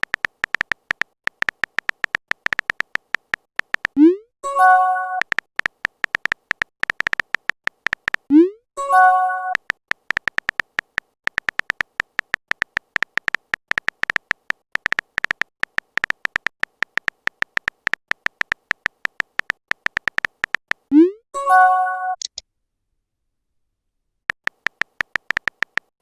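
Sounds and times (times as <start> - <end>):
phone keyboard typing clicks: 0.0 - 8.3, 9.2 - 21.0, 24.3 - 25.9.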